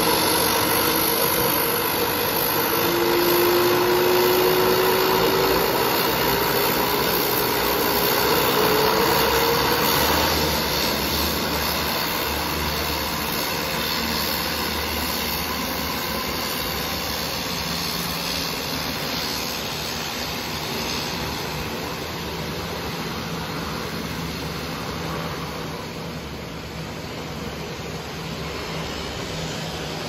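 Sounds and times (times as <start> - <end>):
floatplane engine and propeller: 0.0 - 30.0.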